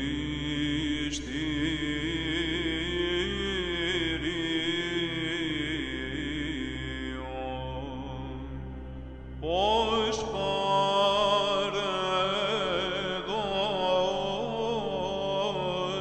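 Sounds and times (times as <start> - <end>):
held vocal drone: 0.0 - 16.0.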